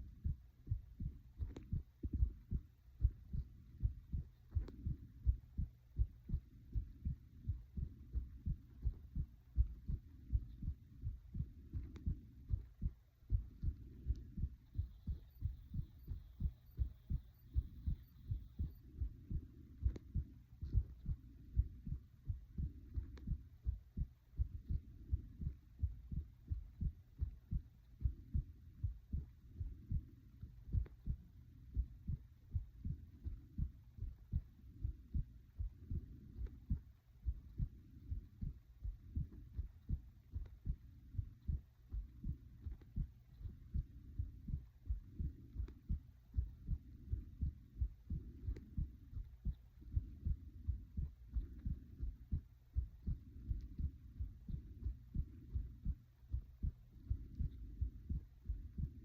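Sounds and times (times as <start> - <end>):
heartbeat thumps: 0.0 - 59.0.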